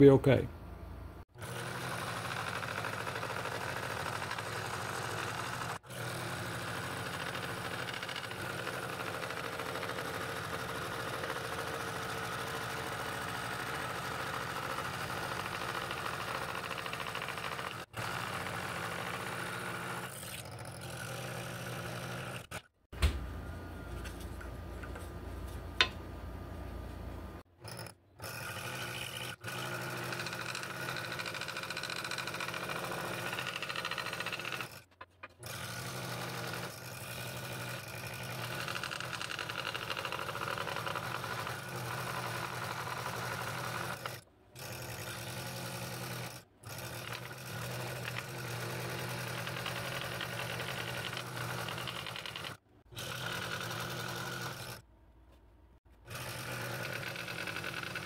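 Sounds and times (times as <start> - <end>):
scroll saw cutting wood: 1.3 - 22.8, 27.6 - 54.8, 55.9 - 58.0.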